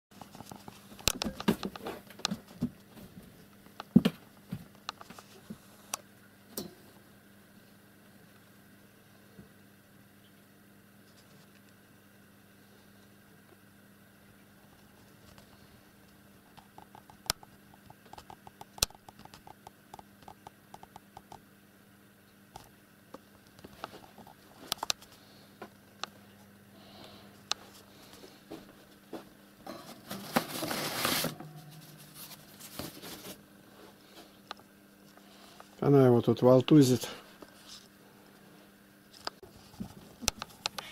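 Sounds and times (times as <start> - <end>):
faint steady hum: 0.1 - 40.9.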